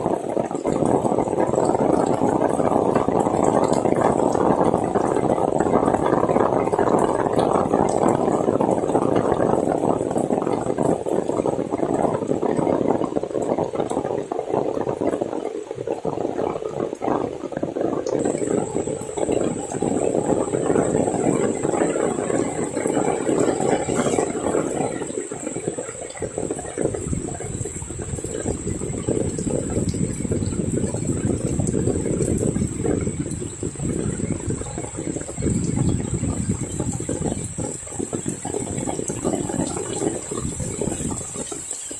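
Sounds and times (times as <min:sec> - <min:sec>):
heavy rain splashing: 0:00.0 - 0:41.9.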